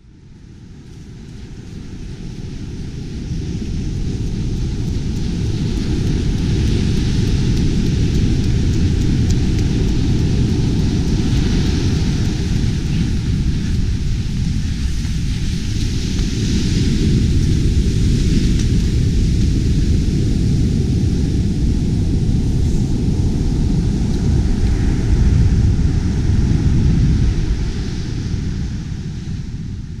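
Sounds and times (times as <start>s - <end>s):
ocean surf breaking on beach: 1.0s - 30.0s.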